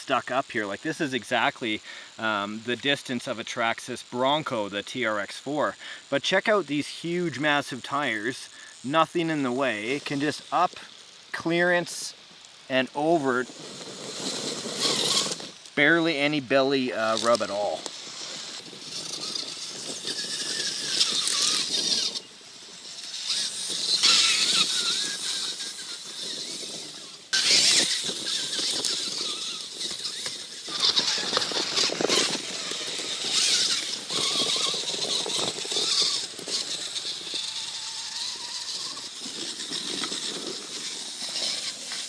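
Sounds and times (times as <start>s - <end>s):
electric motors whining: 7.6s - 42.0s.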